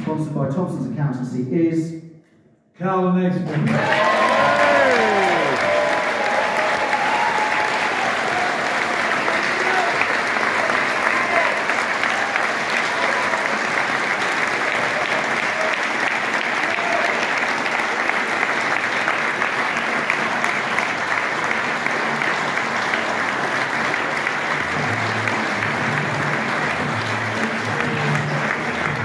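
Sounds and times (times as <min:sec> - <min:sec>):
audience applauding: 0:03.4 - 0:29.0.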